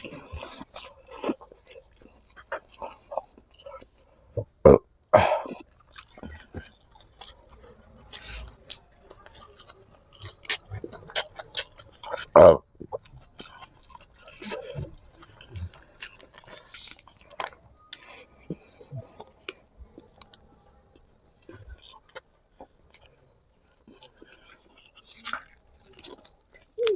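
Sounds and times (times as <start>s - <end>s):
wet chewing and smacking: 0.0s - 26.9s.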